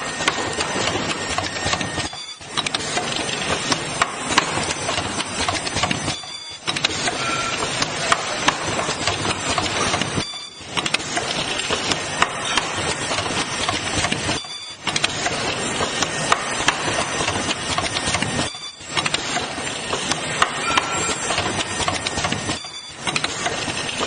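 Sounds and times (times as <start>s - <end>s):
machine clattering: 0.0s - 24.0s.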